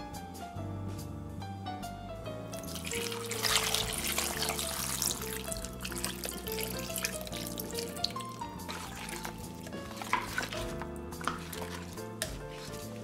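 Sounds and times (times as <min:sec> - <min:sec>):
background music: 0:00.0 - 0:13.0
liquid trickling and splashing: 0:02.6 - 0:13.0.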